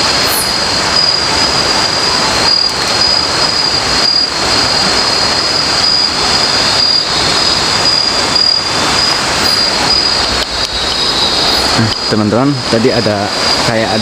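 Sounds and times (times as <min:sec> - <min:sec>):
insects droning: 0:00.0 - 0:14.0
loud even hiss: 0:00.0 - 0:14.0.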